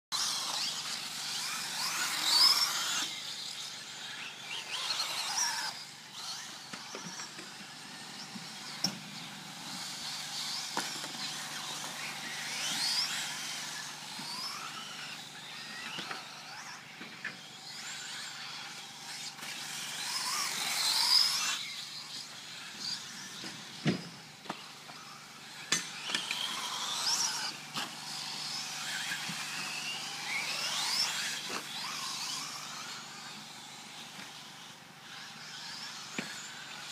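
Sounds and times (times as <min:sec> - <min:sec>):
rc car motor whining: 0:00.1 - 0:36.9.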